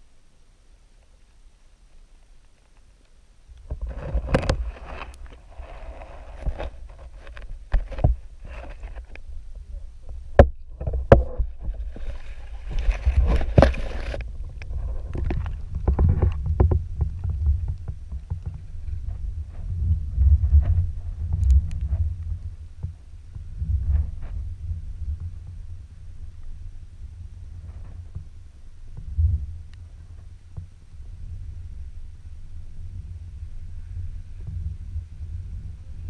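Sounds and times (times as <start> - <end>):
muffled underwater movement: 3.6 - 36.0.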